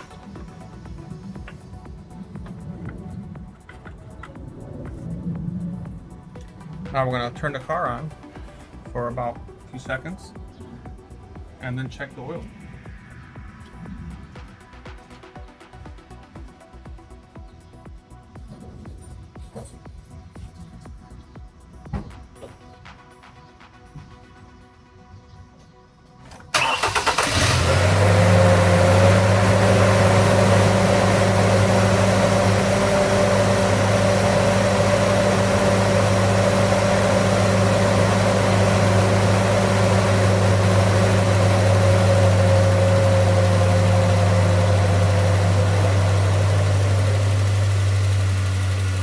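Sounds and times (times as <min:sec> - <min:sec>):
truck engine starting and idling: 0:00.0 - 0:20.3, 0:26.2 - 0:49.0.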